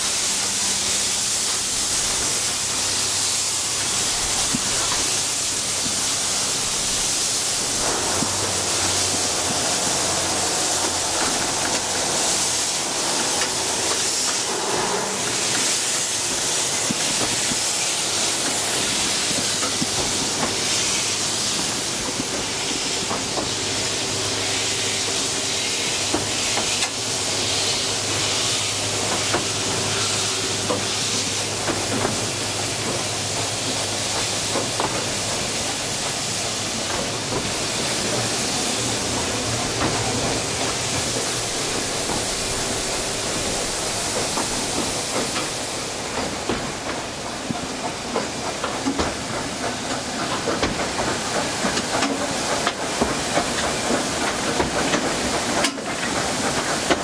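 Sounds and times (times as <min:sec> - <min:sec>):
hiss of steam: 0:00.0 - 0:57.0.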